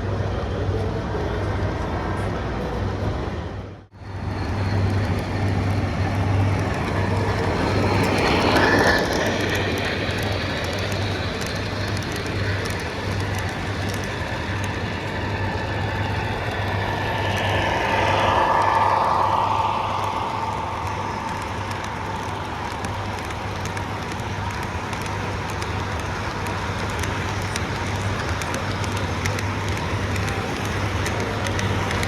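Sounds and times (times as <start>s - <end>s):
pulsing low engine hum: 0.0s - 32.0s
rail vehicle running on track: 0.0s - 32.0s
faint clicking: 4.8s - 32.0s.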